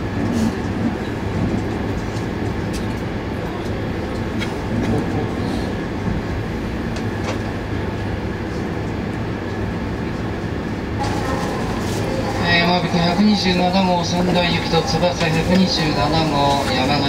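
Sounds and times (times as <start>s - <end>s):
train cabin rumble and hum: 0.0s - 17.0s.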